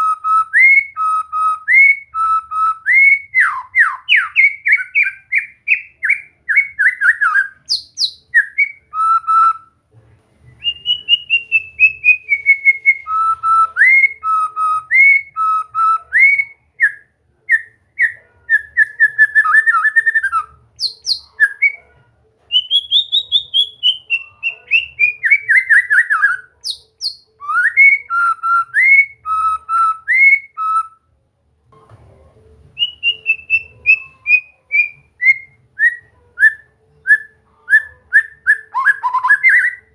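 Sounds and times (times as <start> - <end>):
bird singing whistled notes: 0.0 - 9.7, 10.6 - 21.8, 22.5 - 31.0, 32.8 - 39.9.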